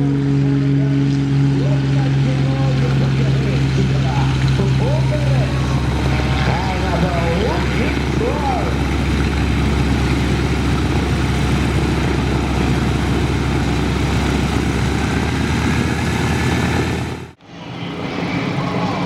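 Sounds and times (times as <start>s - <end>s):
steady low hum: 0.0s - 18.3s
propeller aircraft engine: 0.0s - 19.0s.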